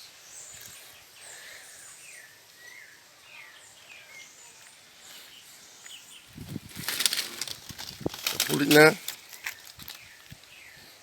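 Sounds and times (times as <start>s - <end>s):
outdoor ambience: 0.0s - 11.0s
wild birds chirping: 0.0s - 11.0s.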